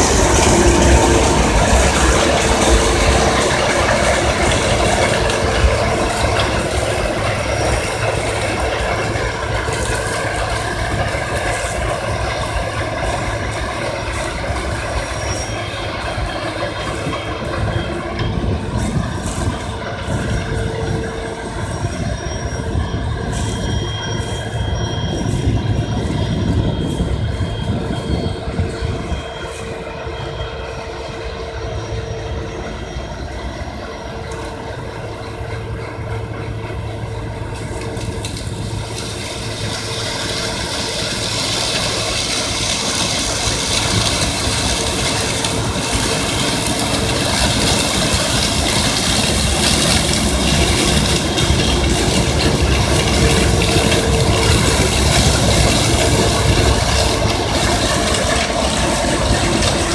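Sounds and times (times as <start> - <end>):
combine harvester running: 0.0 - 59.9
mid-pitched whine: 0.0 - 59.9.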